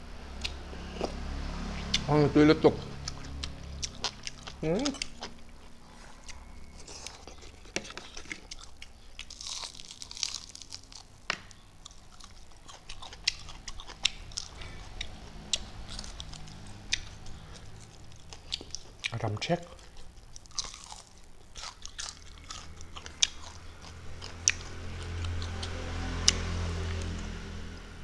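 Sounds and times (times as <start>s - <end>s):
person chewing food: 0.4s - 2.1s, 2.7s - 27.6s.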